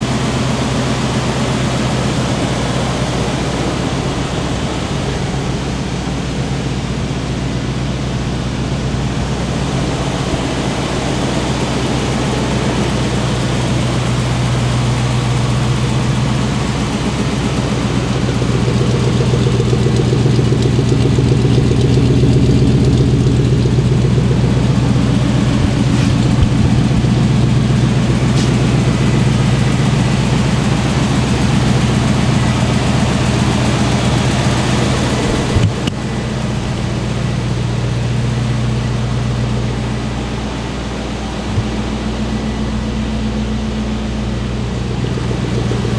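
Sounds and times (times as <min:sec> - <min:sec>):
pickup engine idling: 0:00.0 - 0:45.9.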